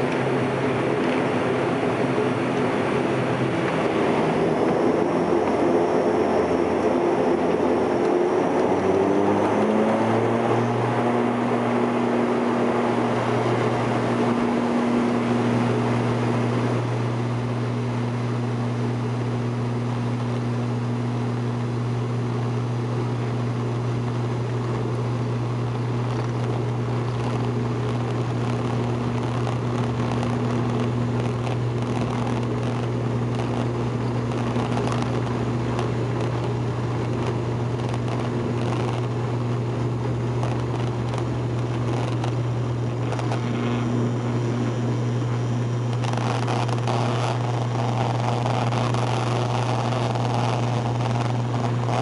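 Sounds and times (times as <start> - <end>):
turboprop engines and propellers droning: 0.0 - 52.0.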